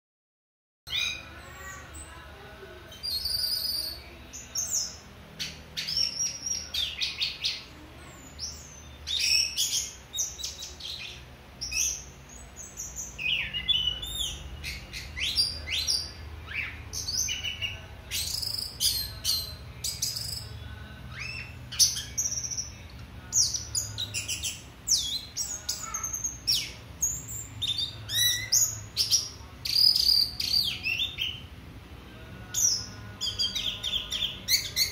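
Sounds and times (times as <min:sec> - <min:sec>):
thrush singing: 0:00.9 - 0:34.9.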